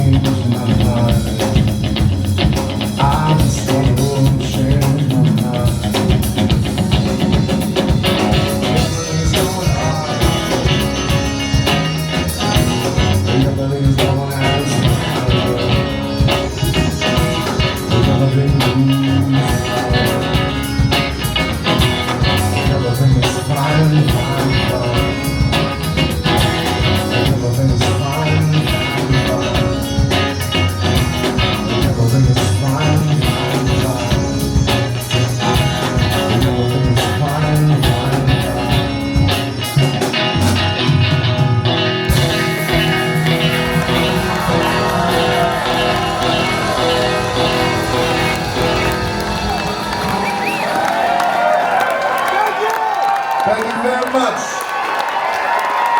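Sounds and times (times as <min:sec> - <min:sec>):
driving bass line: 0:00.0 - 0:51.9
drums keeping steady beat: 0:00.0 - 0:54.4
guitar: 0:00.0 - 0:55.9.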